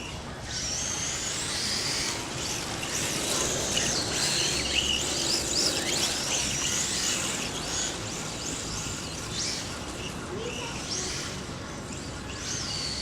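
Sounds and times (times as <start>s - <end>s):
rc car electric motor whining: 0.0s - 13.0s.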